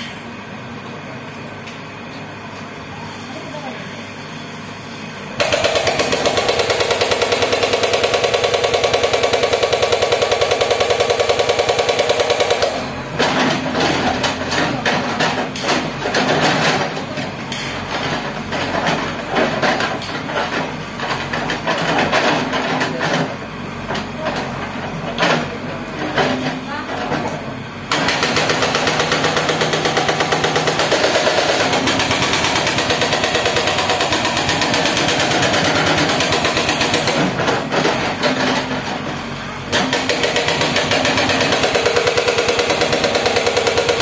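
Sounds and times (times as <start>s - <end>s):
machine engine running: 4.8s - 44.0s
hydraulic rock breaker hammering: 5.4s - 44.0s.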